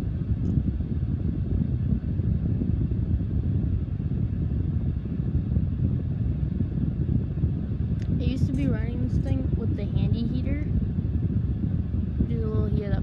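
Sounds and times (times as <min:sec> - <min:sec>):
blower rumbling rush of air: 0:00.0 - 0:13.0.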